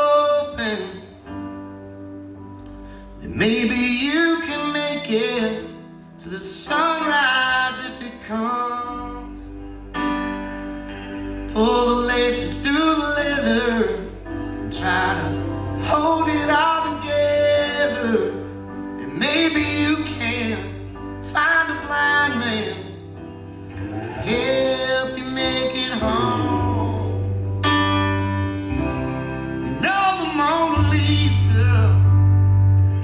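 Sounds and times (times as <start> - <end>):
person singing: 0.0 - 1.6, 3.1 - 10.4, 11.2 - 33.0
bass guitar: 0.0 - 33.0
guitars: 0.0 - 33.0.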